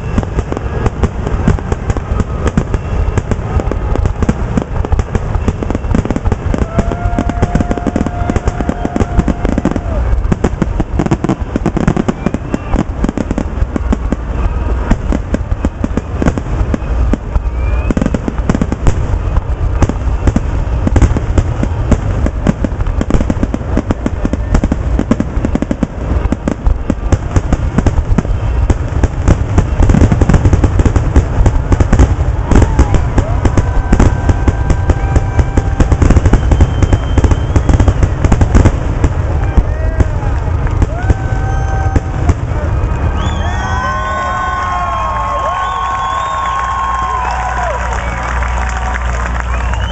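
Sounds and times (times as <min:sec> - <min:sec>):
fireworks bursting: 0:00.0 - 0:49.9.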